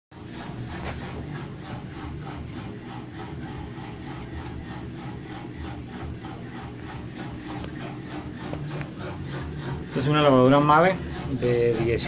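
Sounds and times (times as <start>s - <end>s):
washing machine spinning: 0.1s - 12.0s
rhythmic rasping: 0.2s - 12.0s.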